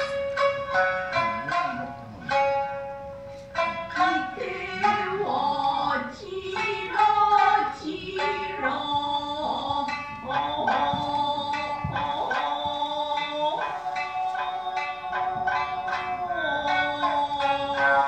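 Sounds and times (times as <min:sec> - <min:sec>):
person singing long wavering notes: 0:00.0 - 0:02.8, 0:03.5 - 0:18.0
plucked shamisen: 0:00.0 - 0:18.0.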